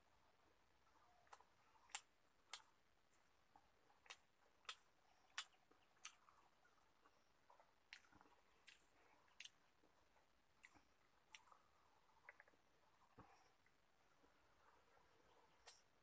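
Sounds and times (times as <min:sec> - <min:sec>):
mouth and lip smacks chewing: 0:01.0 - 0:16.0.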